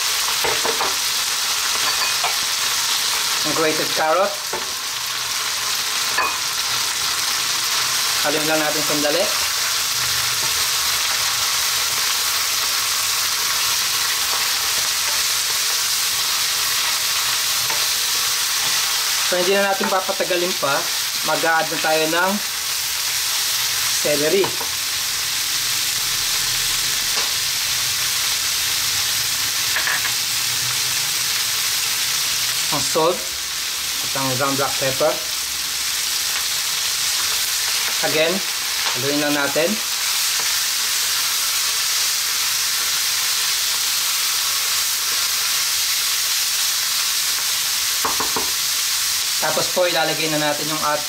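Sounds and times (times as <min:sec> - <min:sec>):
food sizzling in hot oil: 0:00.0 - 0:51.0.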